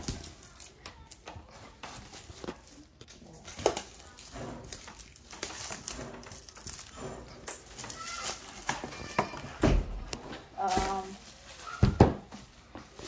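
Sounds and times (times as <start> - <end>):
plastic shrink wrap crinkling: 0.0 - 13.0.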